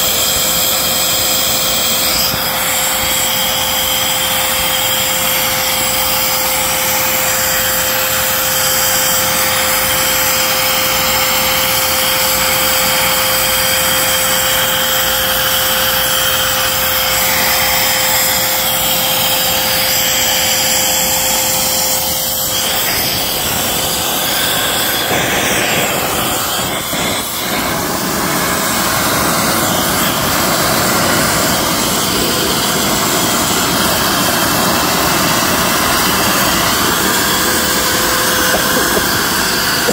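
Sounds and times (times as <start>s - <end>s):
vacuum cleaner rushing: 0.0s - 39.9s
vacuum nozzle whistling tone: 0.0s - 39.9s.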